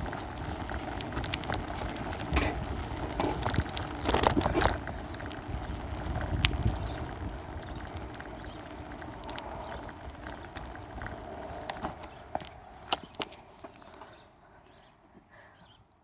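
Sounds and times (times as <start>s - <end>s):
tyre and wind noise: 0.0s - 14.2s
bike clicks and rattles: 0.0s - 14.3s.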